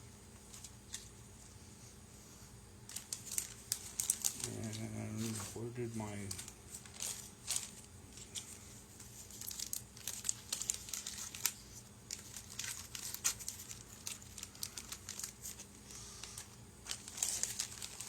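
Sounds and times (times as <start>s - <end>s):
plastic bags crinkling: 2.9s - 18.0s.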